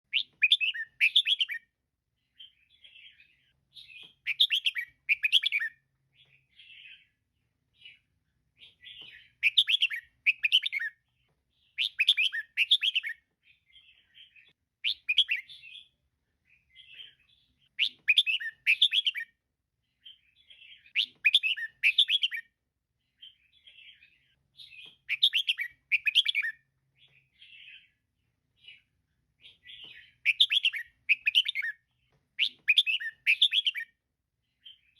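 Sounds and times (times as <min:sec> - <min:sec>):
bird chirping phrases: 0:00.1 - 0:34.9.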